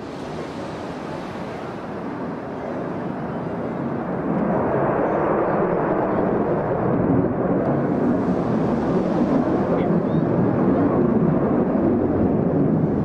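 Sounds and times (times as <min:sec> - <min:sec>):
fighter jet engine rumble: 0:00.0 - 0:13.0.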